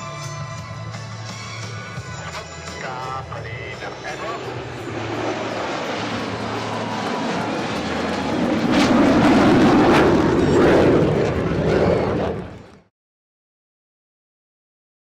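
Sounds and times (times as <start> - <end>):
aircraft engine drone: 0.0 - 12.8.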